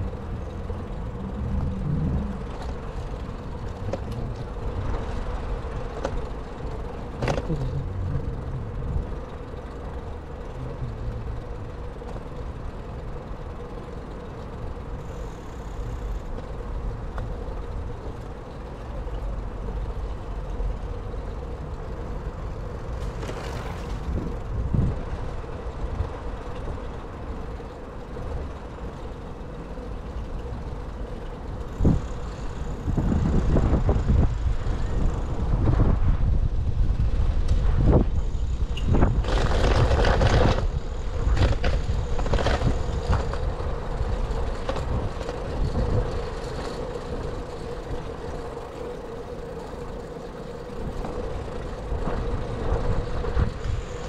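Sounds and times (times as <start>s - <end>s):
wind rumble on microphone: 0.0s - 13.0s, 19.0s - 27.1s, 30.6s - 54.0s
motor vehicles passing: 0.0s - 54.0s.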